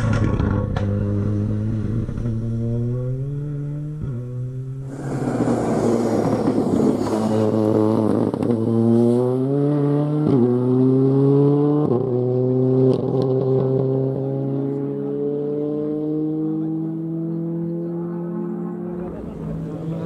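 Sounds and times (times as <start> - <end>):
rally car accelerating with gear shifts: 0.0 - 5.0, 6.0 - 20.0.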